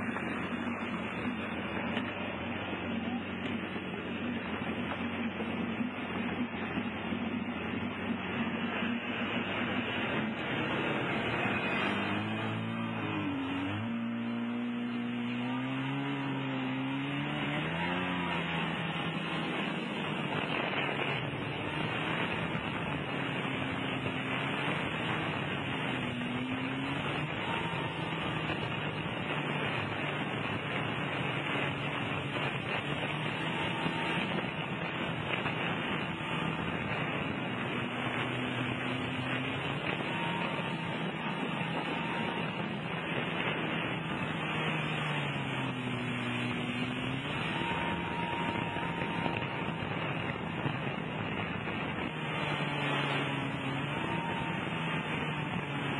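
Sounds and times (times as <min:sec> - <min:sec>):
spray and wind rushing: 0:00.0 - 0:55.9
watercraft engine running: 0:00.0 - 0:55.9.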